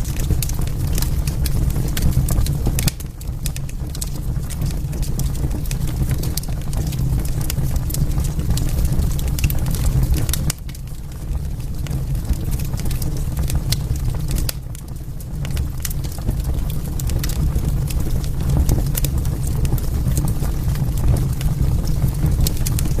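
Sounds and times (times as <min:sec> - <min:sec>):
fire pops and snaps: 0:00.0 - 0:23.0
low rumble of flames: 0:00.0 - 0:23.0.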